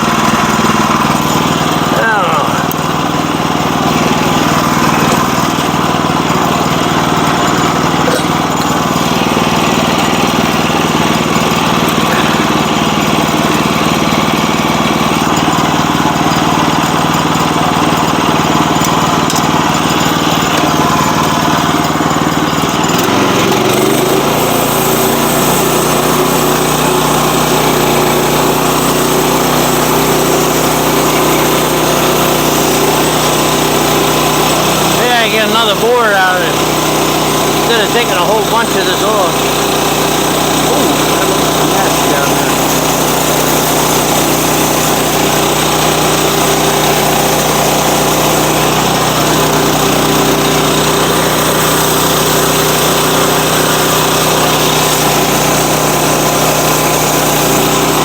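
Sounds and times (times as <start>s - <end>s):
sawmill cutting a log: 0.0s - 58.0s.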